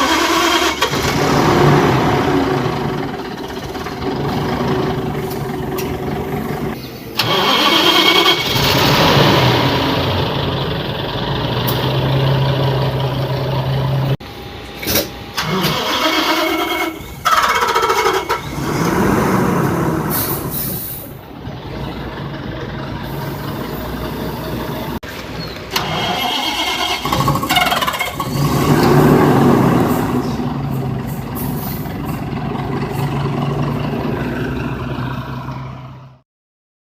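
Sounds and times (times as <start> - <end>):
bus engine running: 0.0 - 36.2.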